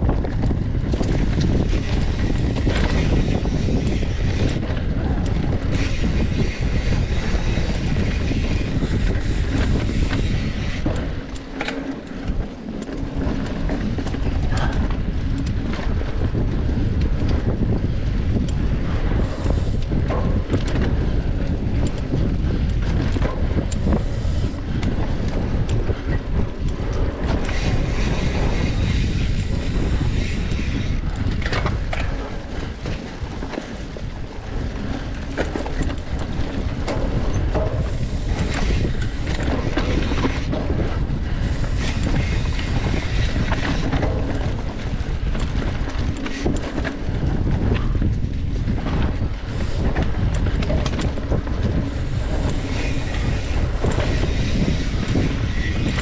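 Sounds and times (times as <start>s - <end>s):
bike rattles and clicks: 0.0s - 56.0s
wind buffeting microphone: 0.0s - 56.0s.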